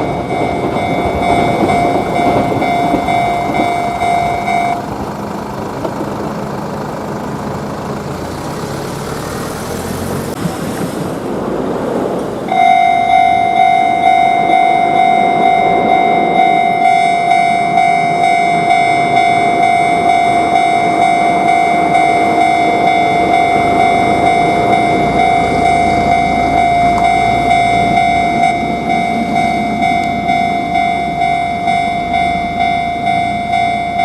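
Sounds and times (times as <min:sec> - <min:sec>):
railroad crossing warning bell: 0:00.0 - 0:08.2, 0:12.5 - 0:34.0
train wheels on track: 0:00.0 - 0:34.0.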